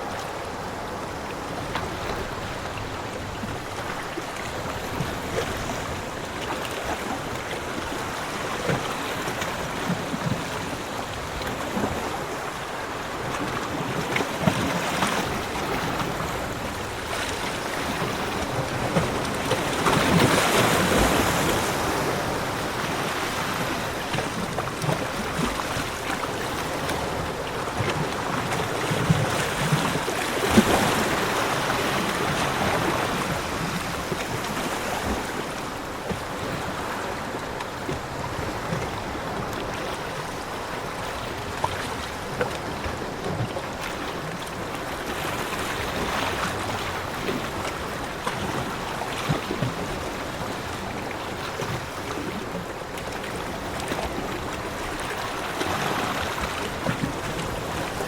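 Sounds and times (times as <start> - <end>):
ocean surf washing onto beach: 0.0 - 58.0
waves breaking: 0.0 - 58.0.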